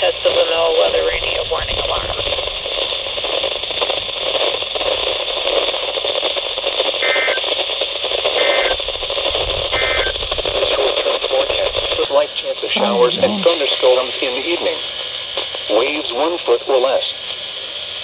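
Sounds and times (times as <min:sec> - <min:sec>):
radio static hiss: 0:00.0 - 0:14.7.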